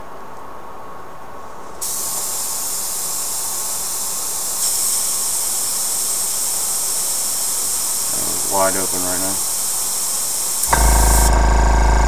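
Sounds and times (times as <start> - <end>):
airbrush air hissing: 1.7 - 11.4.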